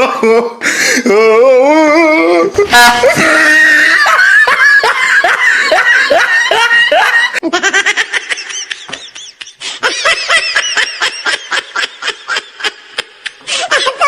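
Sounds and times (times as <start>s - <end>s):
people laughing hard: 2.7s - 14.0s.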